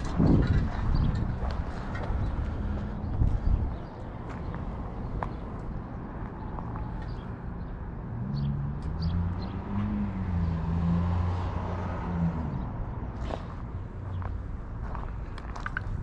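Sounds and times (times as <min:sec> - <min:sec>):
street noise: 0:00.0 - 0:16.0
vehicle engine humming: 0:00.0 - 0:16.0.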